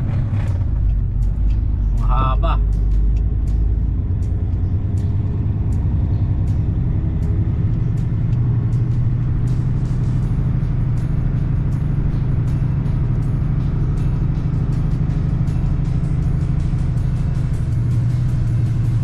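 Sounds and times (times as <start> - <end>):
truck engine and road drone: 0.0 - 19.0
sharp ticks: 0.5 - 19.0.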